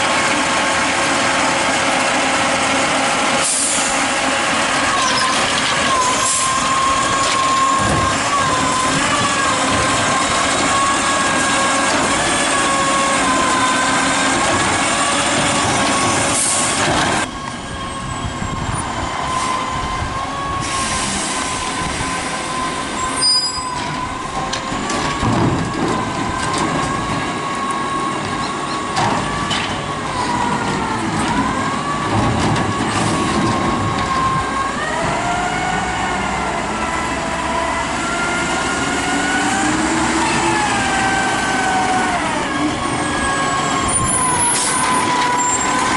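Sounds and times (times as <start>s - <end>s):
distant truck moving off: 0.0s - 45.9s
garbage truck hydraulics whining: 0.0s - 45.9s.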